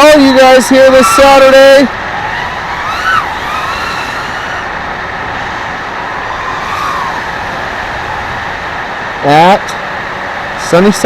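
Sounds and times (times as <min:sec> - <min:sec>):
drone motors whining: 0:00.0 - 0:09.0
steady rush of noise: 0:00.0 - 0:11.0.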